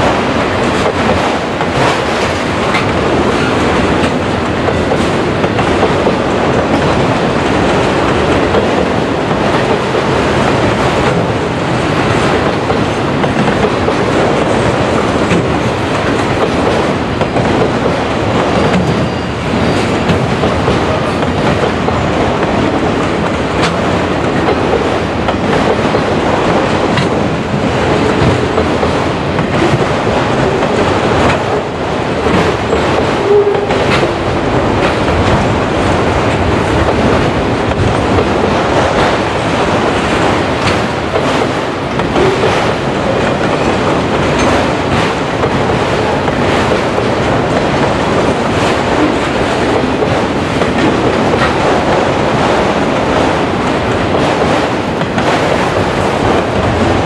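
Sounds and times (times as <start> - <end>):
steel wheels rumbling on rail: 0.0 - 57.0
wheels clacking over rail joints: 0.0 - 57.0.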